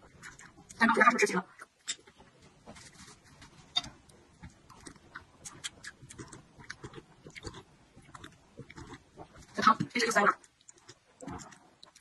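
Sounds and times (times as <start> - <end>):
person chewing and slurping soup: 0.0 - 0.8, 1.5 - 12.0.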